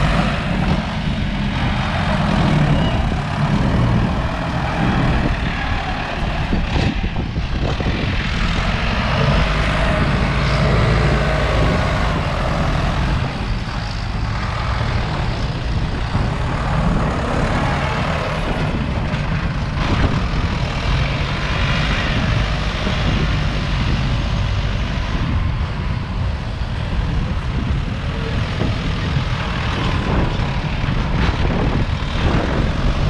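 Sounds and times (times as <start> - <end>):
diesel tractor engine under load: 0.0 - 33.0.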